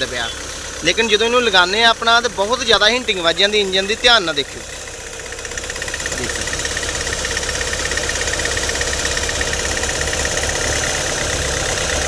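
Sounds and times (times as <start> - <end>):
diesel engine idling roughly: 0.0 - 12.0.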